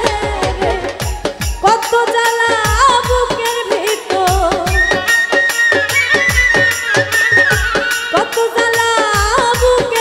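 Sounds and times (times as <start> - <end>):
band accompaniment: 0.0 - 10.0.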